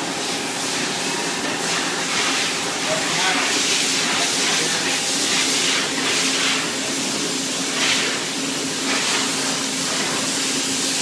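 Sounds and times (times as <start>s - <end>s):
machine spindle humming and hissing: 0.0s - 11.0s.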